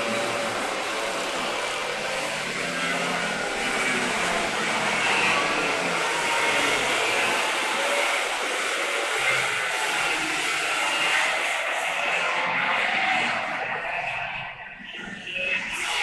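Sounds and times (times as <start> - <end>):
racing kart engines: 0.0 - 16.0.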